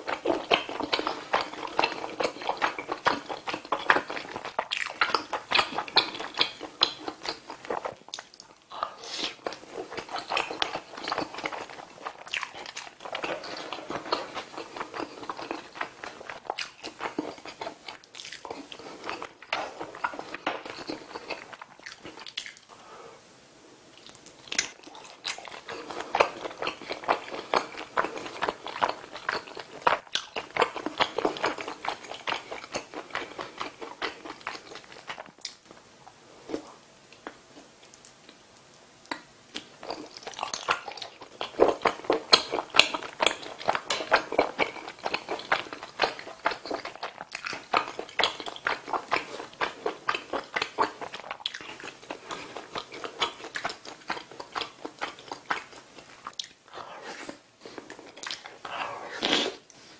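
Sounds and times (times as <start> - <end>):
chewing and biting: 0.0 - 22.7, 24.0 - 35.6, 39.1 - 59.6.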